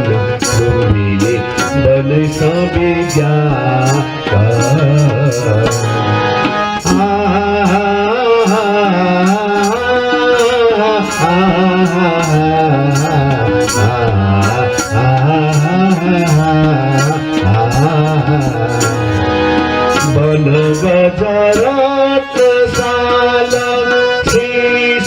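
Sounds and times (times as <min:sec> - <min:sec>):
hand drums: 0:00.0 - 0:21.8.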